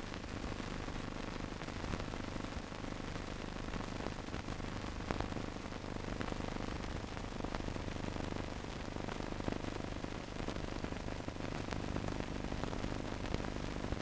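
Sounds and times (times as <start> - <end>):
crackles and clicks: 0.0 - 14.0
film soundtrack hiss: 0.0 - 14.0.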